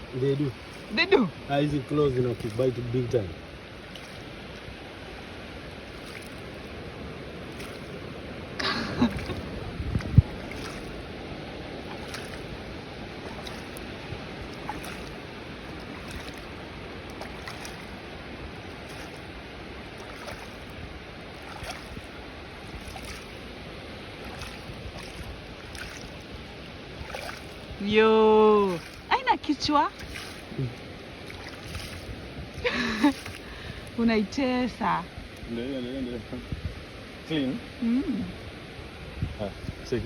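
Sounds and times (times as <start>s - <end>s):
ocean waves washing on shore: 0.0s - 40.0s.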